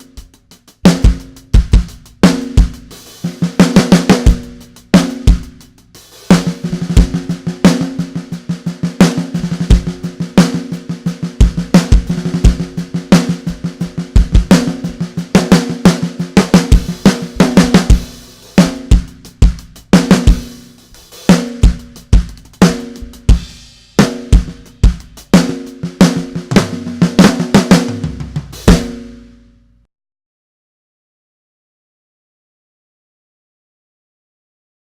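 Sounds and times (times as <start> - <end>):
drum kit playing: 0.0 - 29.8.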